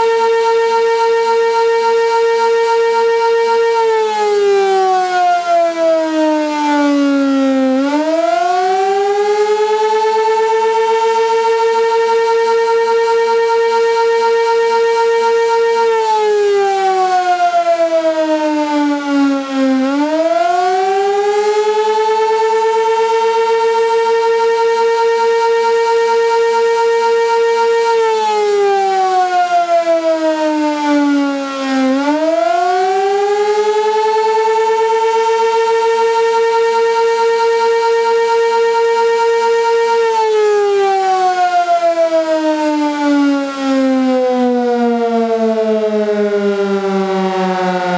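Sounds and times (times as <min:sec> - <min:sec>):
warning siren wailing: 0:00.0 - 0:47.9.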